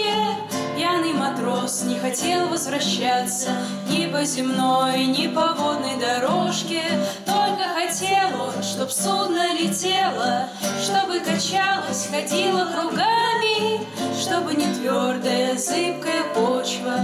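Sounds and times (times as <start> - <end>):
acoustic guitar: 0.0 - 17.0
women singing together: 0.0 - 17.0.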